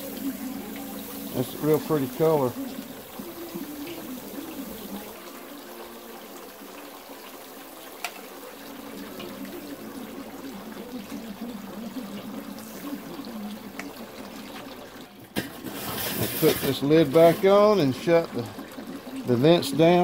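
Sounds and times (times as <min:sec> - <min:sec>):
steaks sizzling on charcoal grill: 0:00.0 - 0:13.9, 0:15.4 - 0:18.2.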